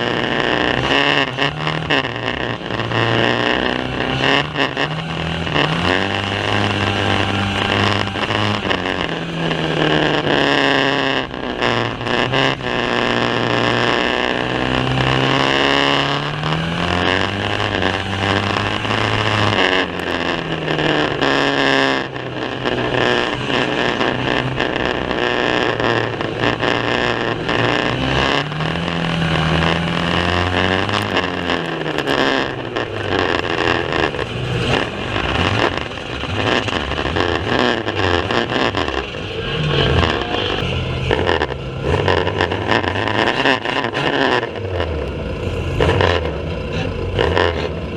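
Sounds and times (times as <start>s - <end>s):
noisy din: 0.0s - 47.9s
racing car engines revving: 0.0s - 47.9s.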